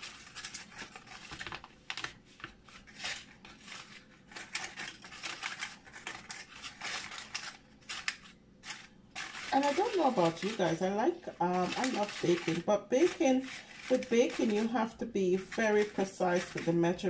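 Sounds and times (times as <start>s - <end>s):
paper liners crinkling: 0.0s - 17.0s.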